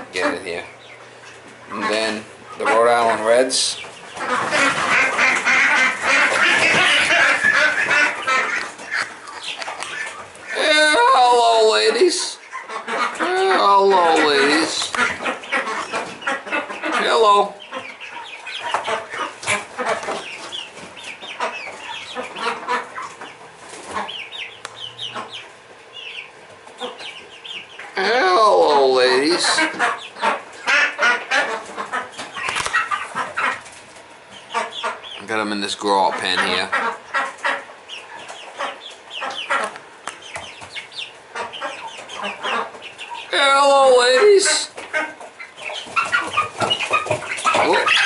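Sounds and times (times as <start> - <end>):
chicks peeping and clucking: 0.0 - 48.0.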